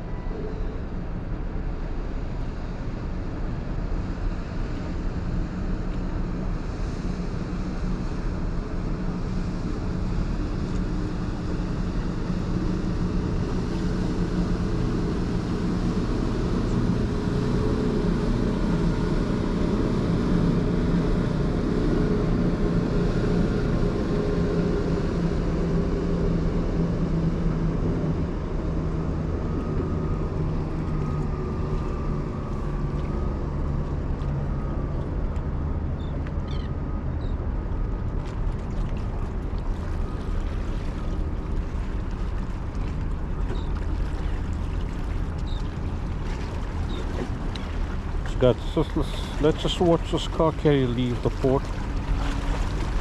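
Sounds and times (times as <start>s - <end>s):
motorboat passing: 0.0s - 53.0s
ship engine low drone: 0.0s - 53.0s.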